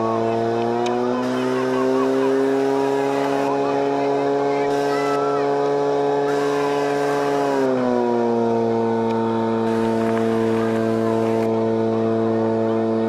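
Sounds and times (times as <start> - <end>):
water pump engine running: 0.0 - 13.0.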